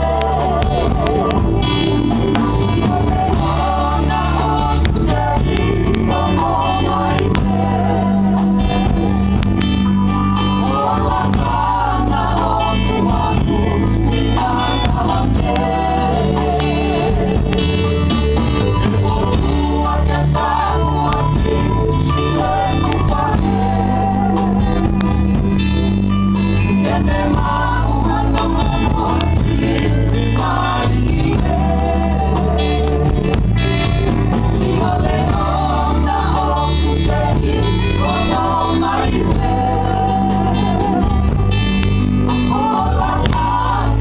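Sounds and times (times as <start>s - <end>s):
voices singing: 0.0s - 25.6s, 26.4s - 44.0s
guitar: 0.0s - 44.0s
low bass notes: 0.0s - 44.0s.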